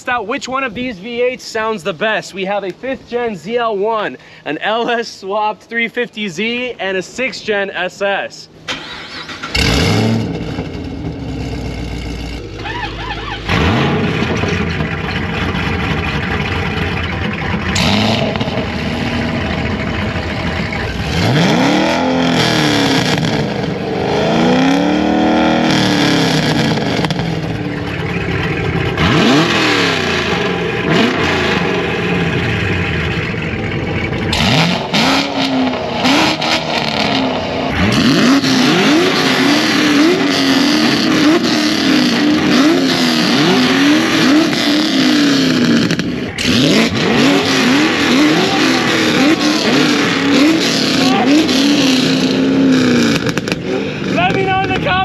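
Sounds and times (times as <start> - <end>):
engine idling and revving: 8.5 - 55.0.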